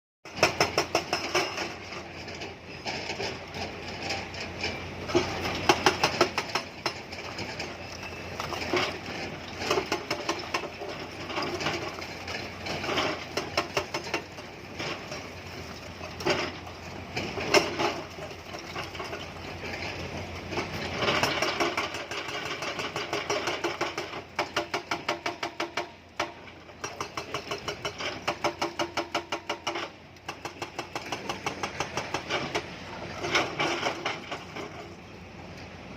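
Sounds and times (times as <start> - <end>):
diesel engine running: 0.3 - 25.1, 29.7 - 35.9
hydraulic breaker hammering stone: 0.3 - 34.9.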